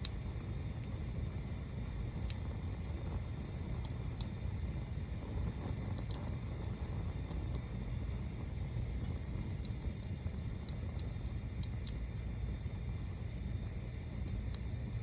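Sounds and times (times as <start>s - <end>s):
bonfire rumbling: 0.0s - 15.0s
fire crackling and popping: 0.0s - 15.0s.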